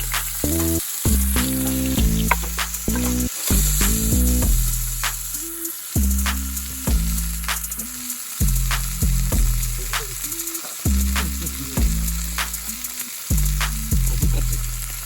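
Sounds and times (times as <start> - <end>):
steak sizzling in a frying pan: 0.0 - 15.0.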